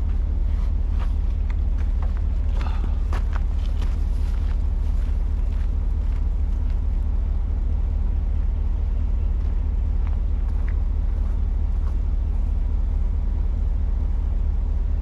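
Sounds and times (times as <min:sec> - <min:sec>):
engine running with low rumble: 0:00.0 - 0:15.0.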